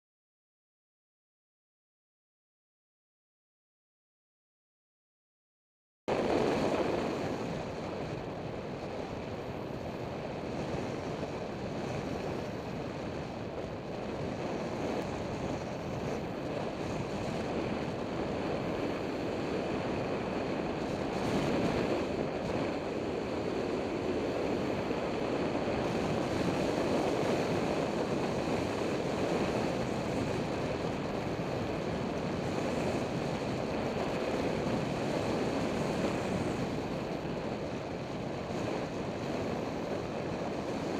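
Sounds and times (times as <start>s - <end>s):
wind on microphone: 6.1s - 40.9s.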